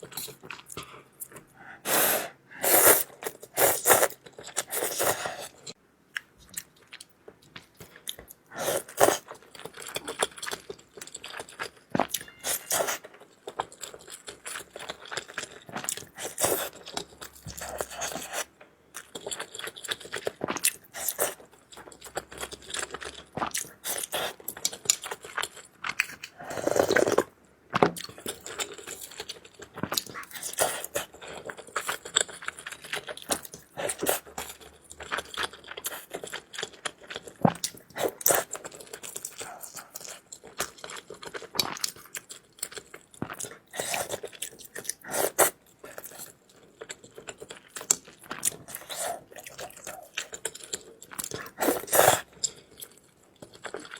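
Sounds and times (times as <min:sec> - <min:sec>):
person chewing noodles: 0:00.0 - 0:05.8, 0:06.5 - 0:27.3, 0:27.9 - 0:53.9.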